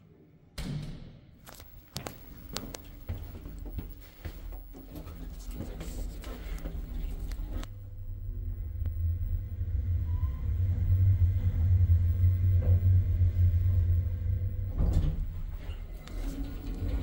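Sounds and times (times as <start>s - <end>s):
elevator low rumble: 1.5s - 17.0s.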